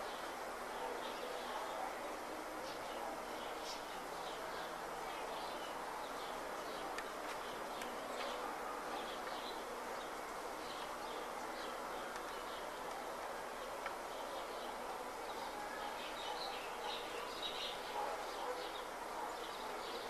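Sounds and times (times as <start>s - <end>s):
birds chirping: 0.0s - 20.0s
outdoor ambient hiss: 0.0s - 20.0s.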